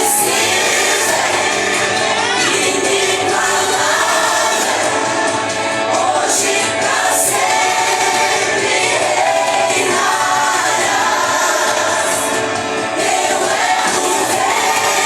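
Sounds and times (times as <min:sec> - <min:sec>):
accompanying music: 0:00.0 - 0:15.0
group singing worship song: 0:00.0 - 0:15.0.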